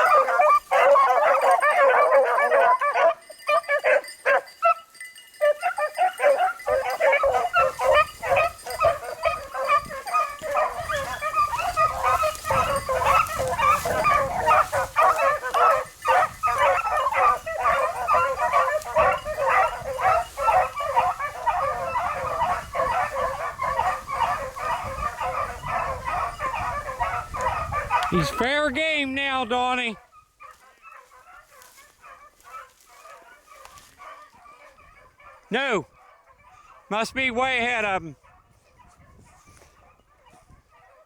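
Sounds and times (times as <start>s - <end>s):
pack of hounds baying: 0.0s - 41.0s.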